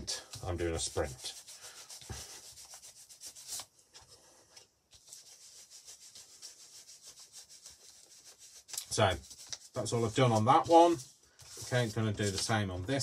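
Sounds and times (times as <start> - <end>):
tool rubbing on paper: 0.4 - 3.7, 5.0 - 12.5.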